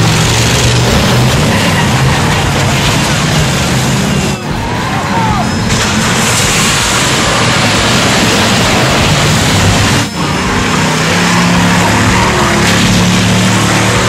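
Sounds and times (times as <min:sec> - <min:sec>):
car engines revving: 0:00.0 - 0:14.0
tyres on dirt: 0:00.0 - 0:14.0.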